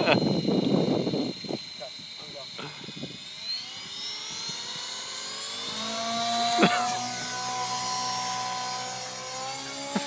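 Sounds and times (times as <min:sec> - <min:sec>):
model helicopter rotors whining: 0:00.0 - 0:10.0.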